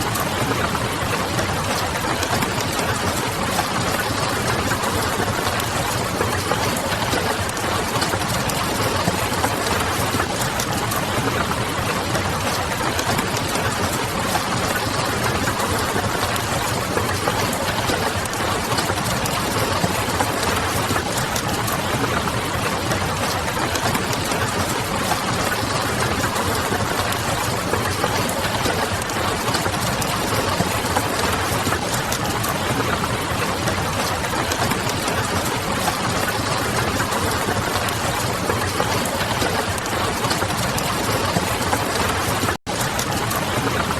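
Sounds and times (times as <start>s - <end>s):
rain pattering: 0.0s - 43.9s.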